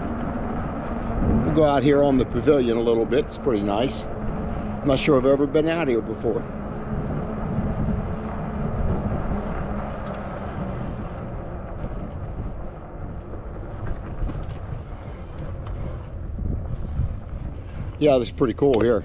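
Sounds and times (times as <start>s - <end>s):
bike tyres rumbling: 0.0s - 19.0s
low hum: 0.0s - 19.0s
wind on microphone: 0.0s - 19.0s.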